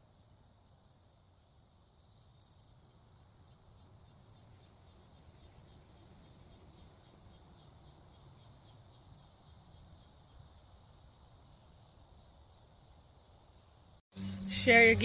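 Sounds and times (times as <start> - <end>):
insects chirping: 1.7 - 15.0.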